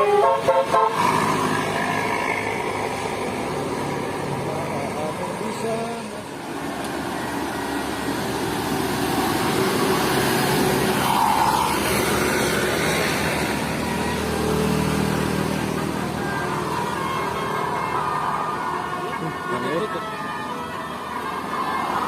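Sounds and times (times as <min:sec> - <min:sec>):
bus driving past: 0:00.0 - 0:22.0.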